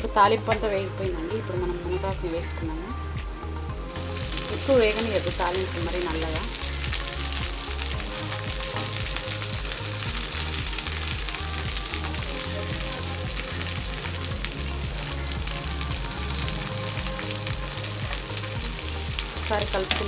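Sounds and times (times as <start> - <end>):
leaves sizzling in hot oil: 0.0 - 20.0
low regular background beat: 0.0 - 20.0.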